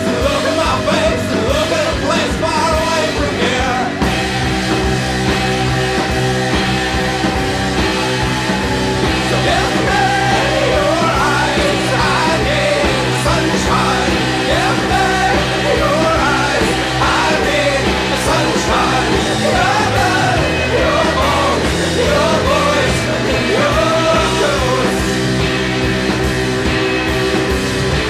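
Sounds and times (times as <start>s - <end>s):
rock song with singing: 0.0s - 28.0s.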